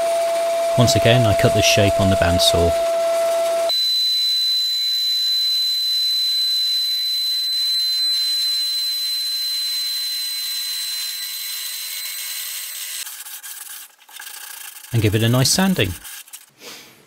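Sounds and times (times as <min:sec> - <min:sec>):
bandsaw whining and cutting wood: 0:00.0 - 0:16.5.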